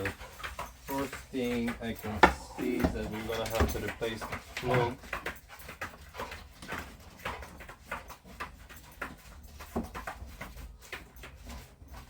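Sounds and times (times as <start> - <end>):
light clicks and knocks: 0.0 - 11.6.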